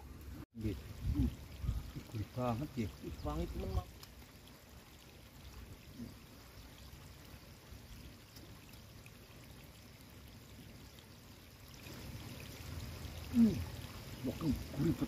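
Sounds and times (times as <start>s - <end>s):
faint running water: 0.0s - 15.0s.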